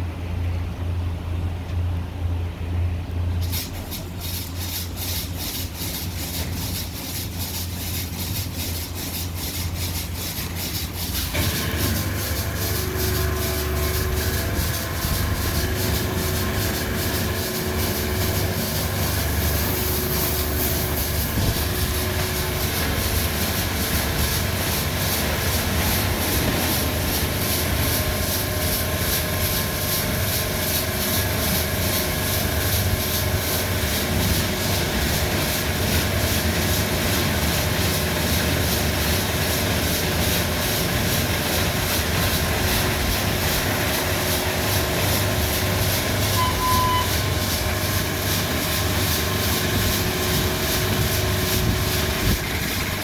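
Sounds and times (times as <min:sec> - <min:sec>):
car wash machine rumbling: 0:00.0 - 0:53.0.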